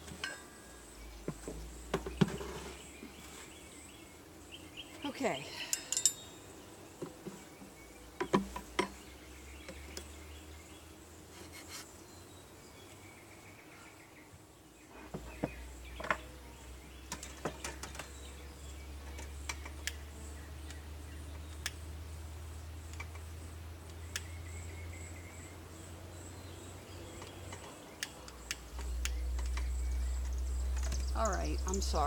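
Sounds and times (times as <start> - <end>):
honeybees buzzing: 0.0 - 32.0.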